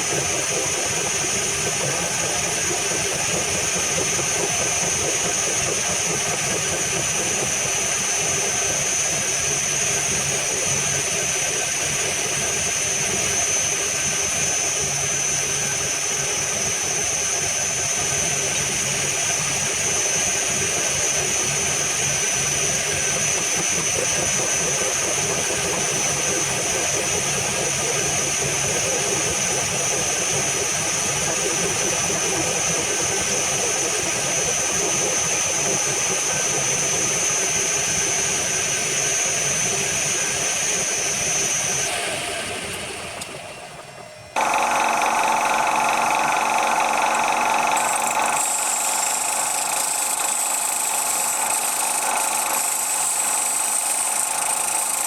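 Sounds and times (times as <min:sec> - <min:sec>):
machine tool high whine: 0:00.0 - 0:55.0.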